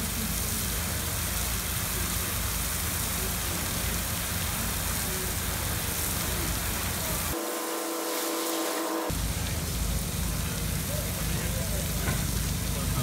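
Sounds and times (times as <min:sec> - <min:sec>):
heavy artificial rain falling: 0:00.0 - 0:13.0.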